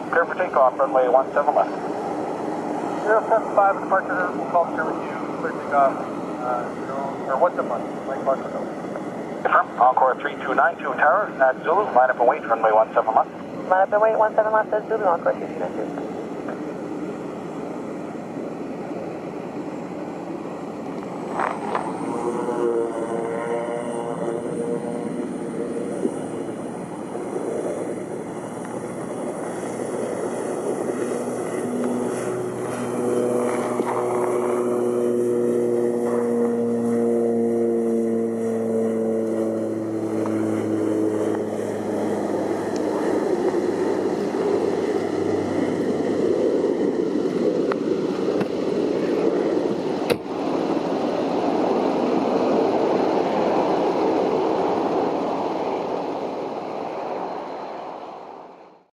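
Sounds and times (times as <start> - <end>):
airliner engines roaring: 0.0 - 58.9
high engine whine: 0.0 - 58.9.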